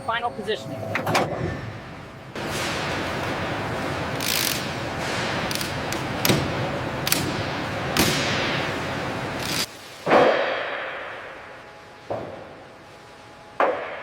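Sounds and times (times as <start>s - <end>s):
steady rushing hiss: 2.2s - 14.0s.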